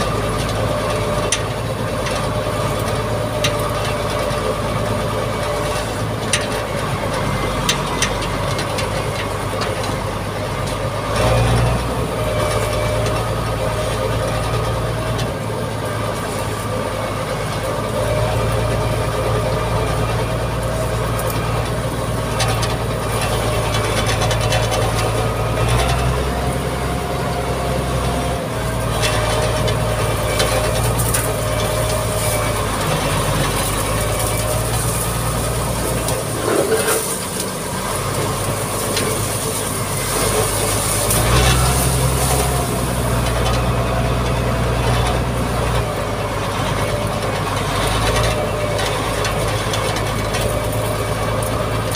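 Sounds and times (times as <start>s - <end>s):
machine clanking and rattling: 0.0s - 26.8s, 27.4s - 51.9s
grader diesel engine running: 0.0s - 51.9s.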